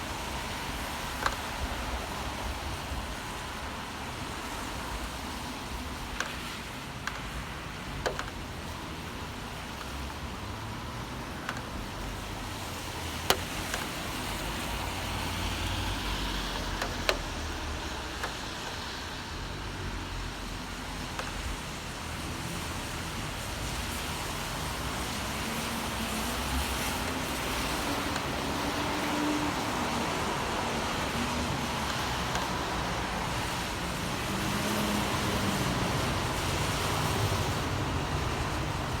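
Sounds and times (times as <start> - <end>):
vehicles passing on wet roads: 0.0 - 39.0.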